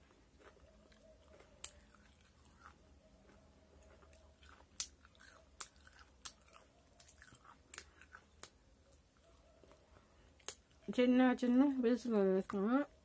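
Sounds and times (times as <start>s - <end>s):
person chewing fried chicken: 0.0s - 10.9s.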